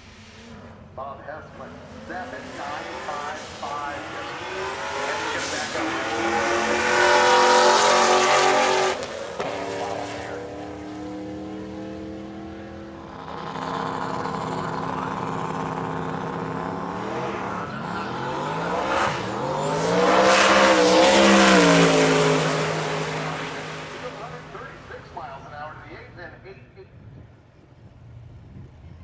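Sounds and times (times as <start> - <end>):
race car engines revving: 0.0 - 26.4.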